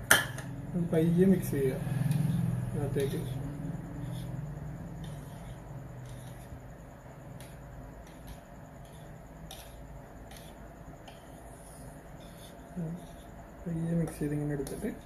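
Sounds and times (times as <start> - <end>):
whisk tapping and scraping bowl: 1.2 - 6.7, 7.3 - 15.0.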